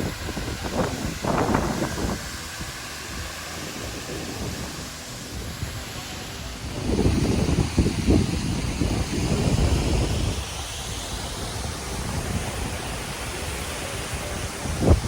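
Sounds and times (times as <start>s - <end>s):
waterfall roar: 0.0s - 15.0s
wind buffeting microphone: 0.0s - 15.0s.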